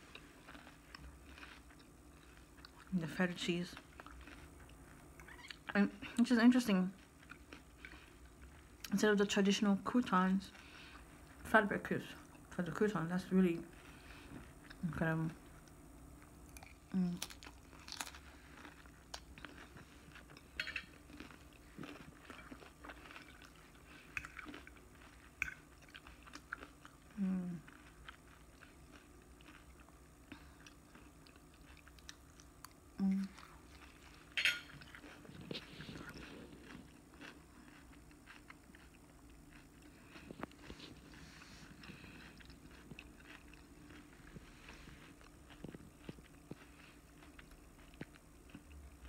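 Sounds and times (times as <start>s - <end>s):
person chewing salad: 0.0s - 9.0s, 13.7s - 49.0s.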